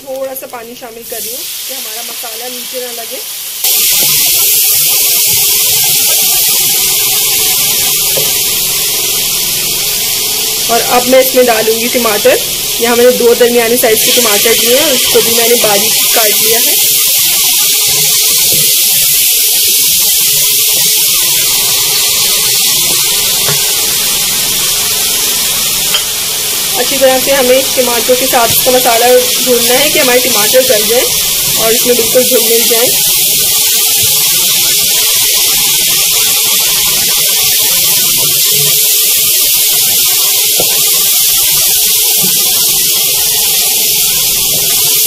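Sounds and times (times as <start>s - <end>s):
masala sizzling in a wok: 0.0s - 45.0s.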